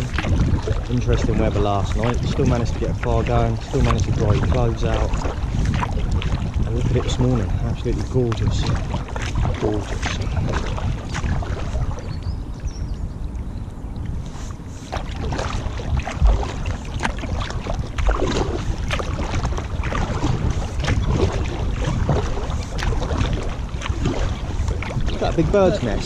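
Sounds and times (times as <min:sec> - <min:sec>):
paddle splashing in water: 0:00.0 - 0:12.8, 0:14.0 - 0:26.0
wind rumble on microphone: 0:00.0 - 0:26.0.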